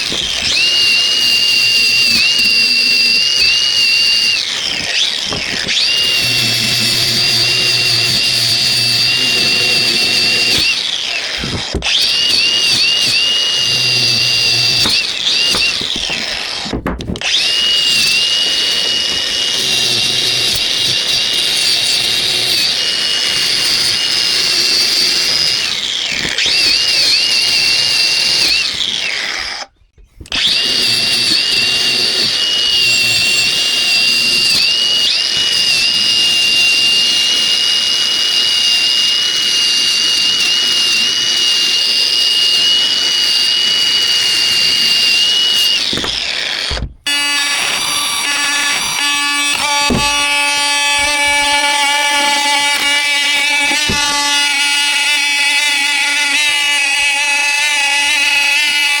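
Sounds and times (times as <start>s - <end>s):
angle grinder whining: 0.0s - 59.0s.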